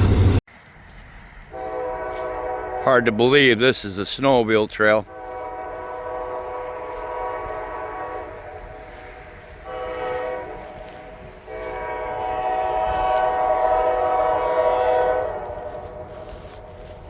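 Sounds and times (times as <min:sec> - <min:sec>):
locomotive air horn blasts: 0:01.4 - 0:03.7, 0:04.8 - 0:17.0.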